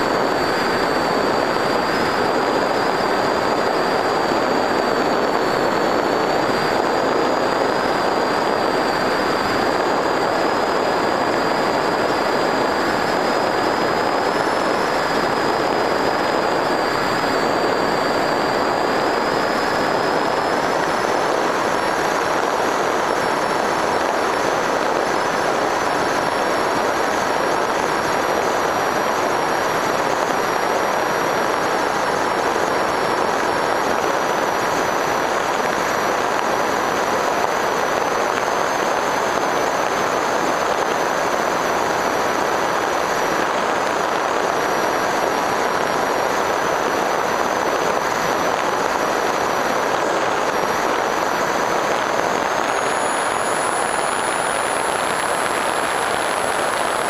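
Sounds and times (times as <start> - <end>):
high motor whine: 0.0 - 57.0
propeller and wind rush: 0.0 - 57.0.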